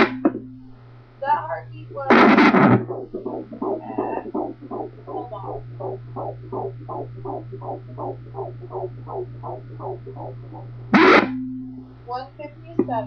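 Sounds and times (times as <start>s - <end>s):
electronic hum: 0.0s - 13.0s
fetal heartbeat whooshing pulses: 0.0s - 13.0s
low steady tone: 0.0s - 13.0s.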